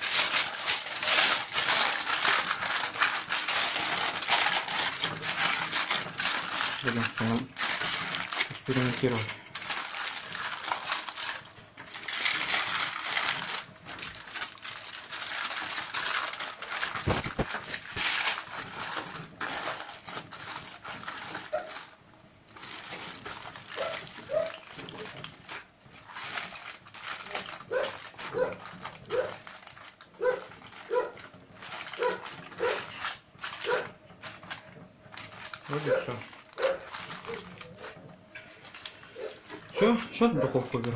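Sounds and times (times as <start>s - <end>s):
kitchen foil crinkling: 0.0s - 40.9s.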